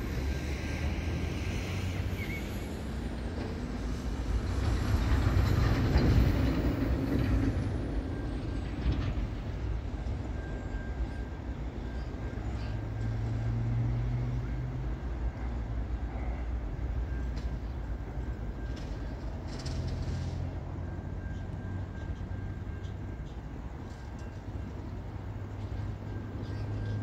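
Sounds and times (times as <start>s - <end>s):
distant freight train rumble: 0.0s - 27.0s.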